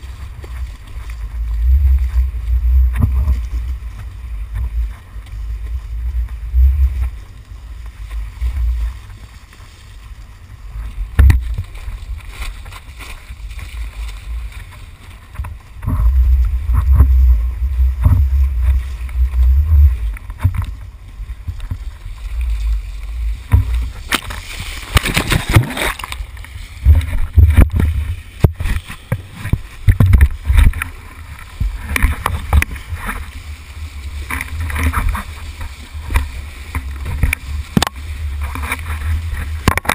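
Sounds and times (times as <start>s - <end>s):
wind buffeting microphone: 0.0s - 9.4s, 10.0s - 39.9s
water rushing and splashing: 0.0s - 39.9s.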